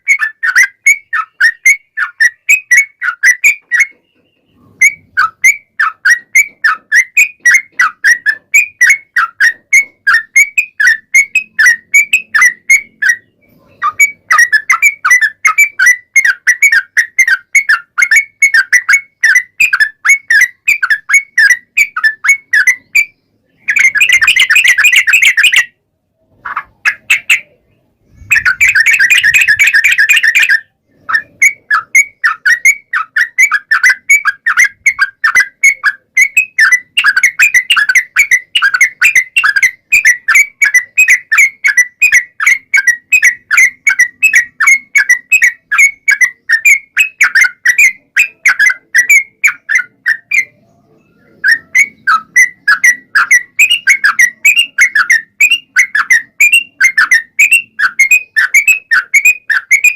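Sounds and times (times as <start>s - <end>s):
bulbul singing whistled notes: 0.0s - 25.8s, 26.5s - 59.9s.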